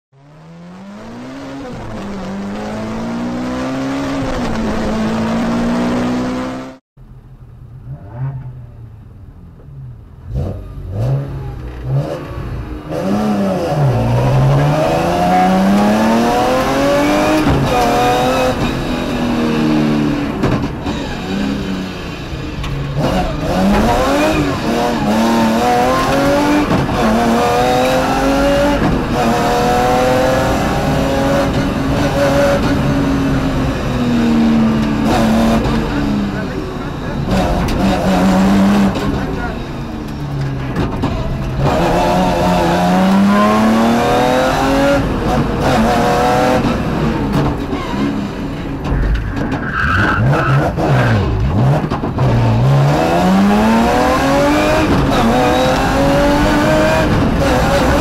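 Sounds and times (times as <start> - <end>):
rally car engine revving: 0.2 - 6.8, 7.7 - 58.0.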